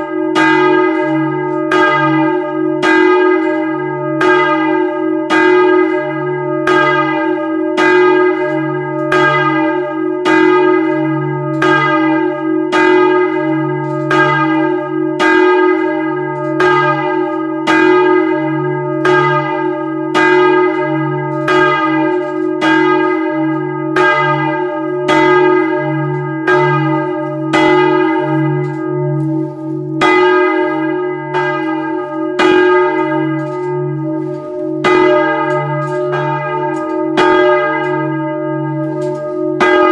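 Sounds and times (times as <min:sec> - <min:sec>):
church bells ringing: 0:00.0 - 0:39.9
deep bell hum: 0:00.0 - 0:39.9.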